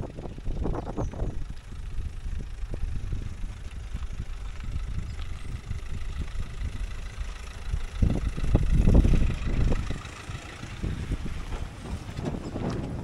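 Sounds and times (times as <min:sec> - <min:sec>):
car engine hum: 0:00.0 - 0:13.0
tyres on gravel: 0:00.0 - 0:13.0.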